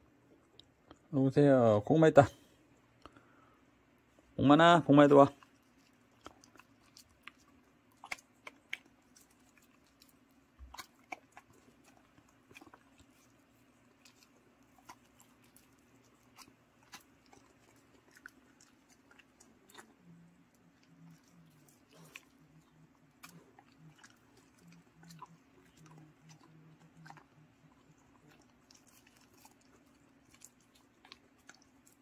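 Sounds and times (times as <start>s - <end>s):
dog chewing and licking: 5.0s - 32.0s.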